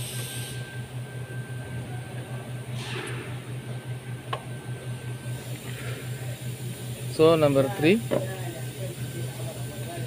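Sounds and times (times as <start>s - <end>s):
pulsing machine hum: 0.0s - 10.0s.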